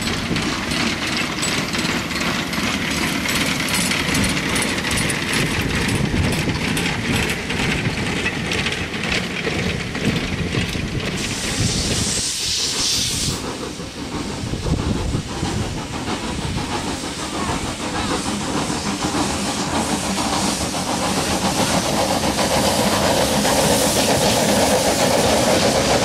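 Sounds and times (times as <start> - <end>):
steam locomotives chuffing: 0.0 - 26.0.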